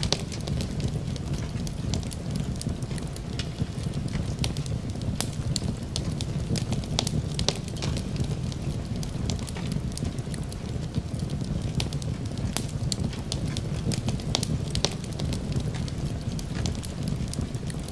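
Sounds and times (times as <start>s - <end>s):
fireplace fire crackling: 0.0s - 17.9s
low fire rumble: 0.0s - 17.9s.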